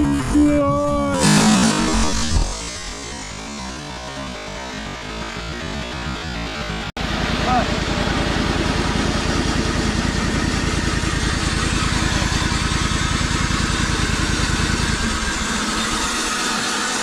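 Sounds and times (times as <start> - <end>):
engine low pulse: 0.0 - 17.0.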